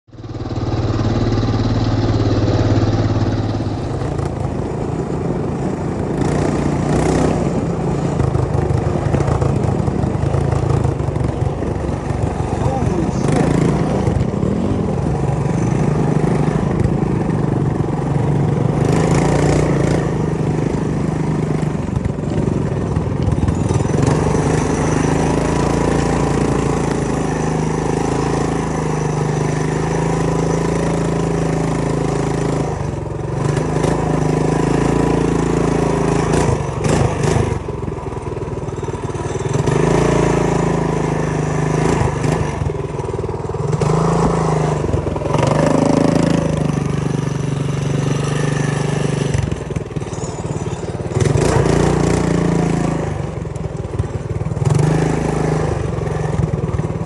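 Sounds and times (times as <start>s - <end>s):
minibike engine running: 0.1s - 57.0s.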